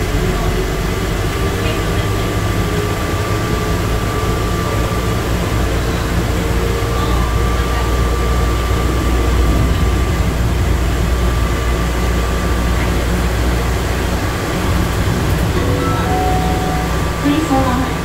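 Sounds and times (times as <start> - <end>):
train car rumbling through tunnel: 0.0 - 18.0.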